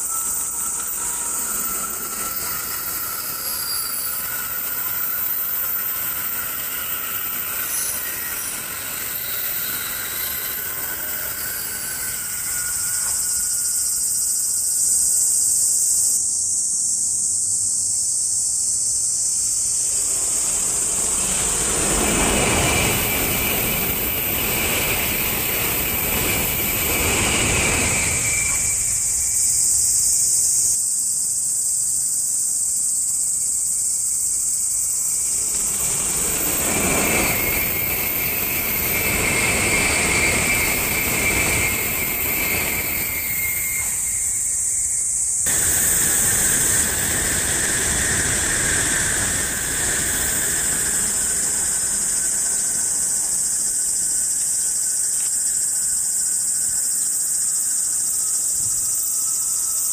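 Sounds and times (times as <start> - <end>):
train rushing past: 0.0 - 15.5, 19.3 - 31.2, 33.3 - 59.9
insects droning: 0.0 - 59.9.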